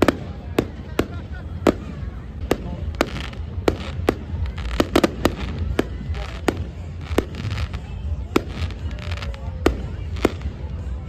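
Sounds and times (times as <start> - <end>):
fireworks bangs: 0.0 - 11.0
fireworks hiss and crackle: 0.0 - 11.0.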